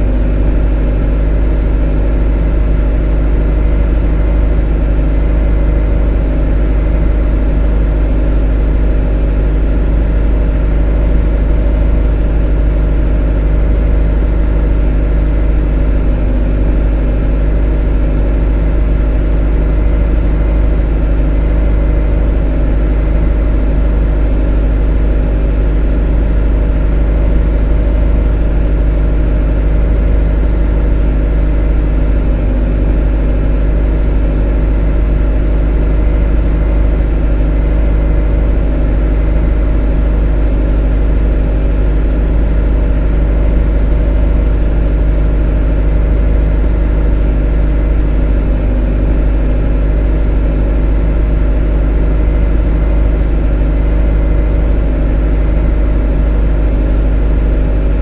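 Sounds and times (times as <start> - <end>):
motor droning: 0.0 - 58.0.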